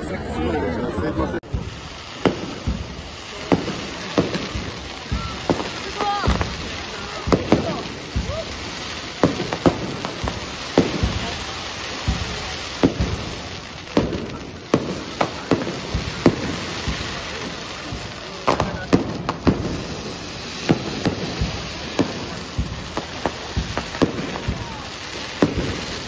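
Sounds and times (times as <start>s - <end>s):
fireworks bangs and crackles: 0.0s - 26.0s
steady hiss: 1.5s - 26.0s.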